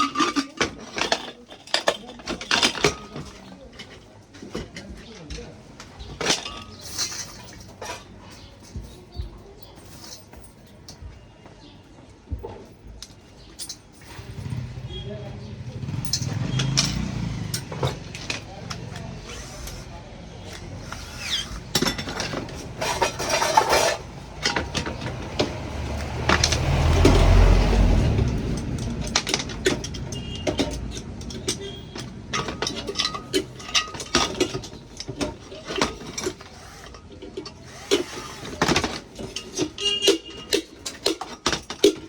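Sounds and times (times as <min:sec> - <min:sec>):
hard objects clinking and knocking: 0:00.0 - 0:11.3, 0:12.3 - 0:42.0.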